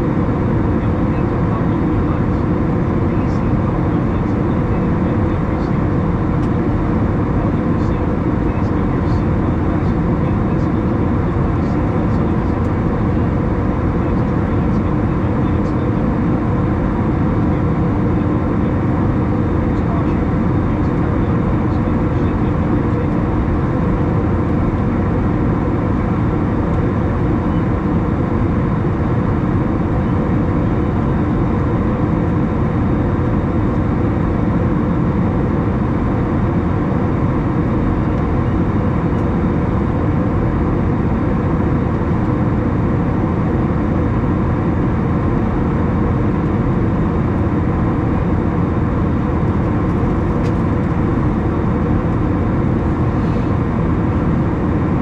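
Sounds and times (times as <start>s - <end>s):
airplane cabin engine and airflow noise: 0.0s - 55.0s.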